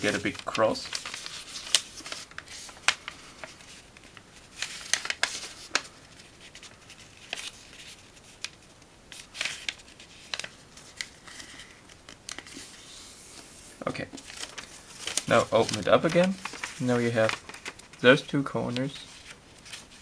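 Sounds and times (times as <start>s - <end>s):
paper crackles and swipes: 0.0s - 20.0s
paper rustling: 0.0s - 20.0s.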